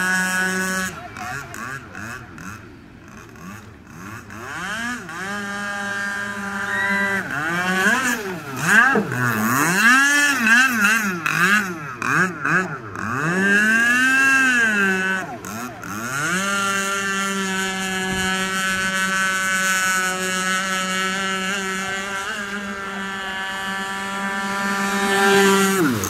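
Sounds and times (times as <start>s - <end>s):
model boat motor running: 0.0s - 26.0s.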